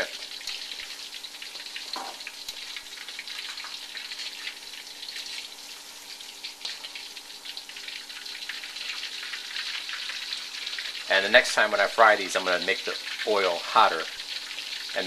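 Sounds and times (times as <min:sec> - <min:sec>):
shrimp deep-frying in oil: 0:00.0 - 0:15.0.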